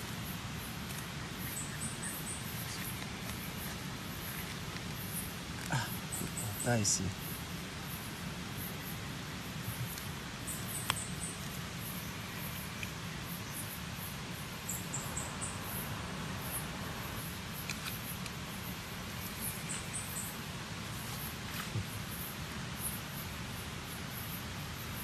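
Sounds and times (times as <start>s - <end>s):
high insect chirps: 0.0s - 25.0s
steady hiss: 0.0s - 25.0s.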